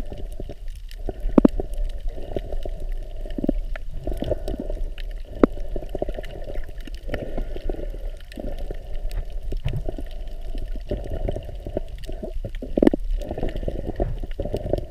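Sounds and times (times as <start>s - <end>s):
small underwater clicks: 0.0s - 14.9s
underwater sloshing and gurgling: 0.0s - 14.9s.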